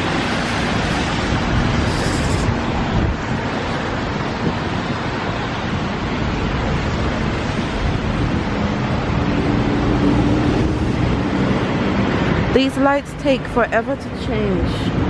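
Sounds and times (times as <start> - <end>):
low engine hum: 0.0 - 15.0
passing vehicles rushing: 0.0 - 15.0.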